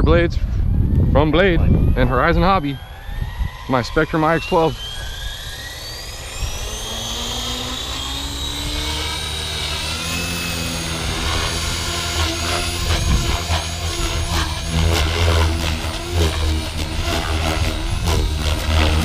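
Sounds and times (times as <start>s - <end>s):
electric motor and gear whine: 0.0s - 19.0s
rotor blades whooshing: 0.6s - 19.0s.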